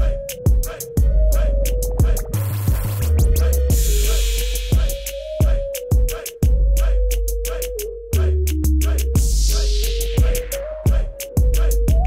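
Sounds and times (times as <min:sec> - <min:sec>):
steady drum beat: 0:00.0 - 0:07.8, 0:08.9 - 0:12.0
heavy bass: 0:01.0 - 0:05.7, 0:06.4 - 0:12.0.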